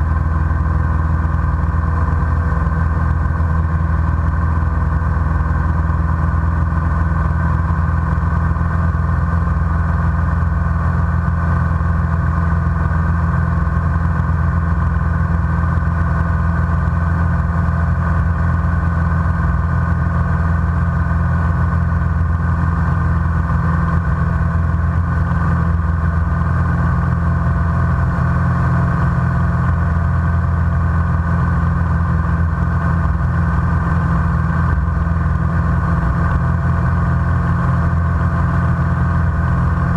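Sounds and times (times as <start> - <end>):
propeller airplane engine droning: 0.0 - 39.9.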